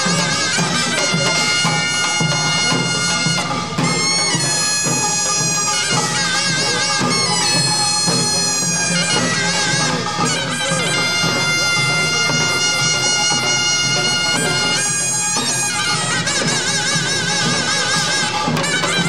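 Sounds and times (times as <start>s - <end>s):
drums driving rhythm: 0.0s - 19.0s
reedy shawm melody: 0.0s - 19.0s.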